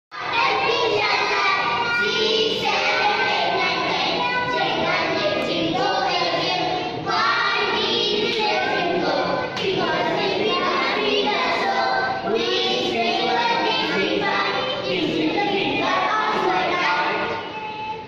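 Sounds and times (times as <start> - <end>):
children singing in unison: 0.1 - 18.0.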